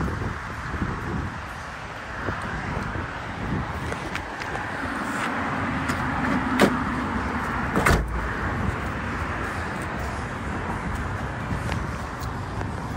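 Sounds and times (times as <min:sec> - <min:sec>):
steady rush of noise: 0:00.0 - 0:12.9.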